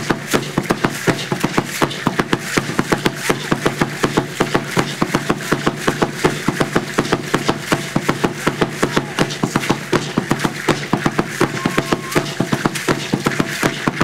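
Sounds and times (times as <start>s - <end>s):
fast drum beat: 0.0s - 14.0s.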